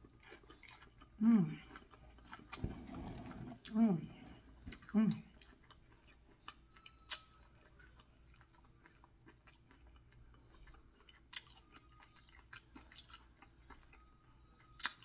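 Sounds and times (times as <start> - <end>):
chewing crispy chicken: 0.0 - 2.6, 4.7 - 15.0.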